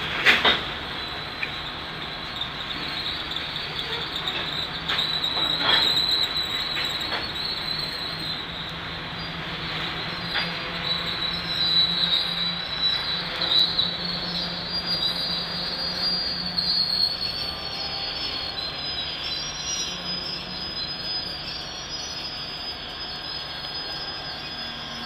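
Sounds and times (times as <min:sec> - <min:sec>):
train rolling noise: 0:00.0 - 0:25.0
train wheels squealing: 0:00.0 - 0:25.0.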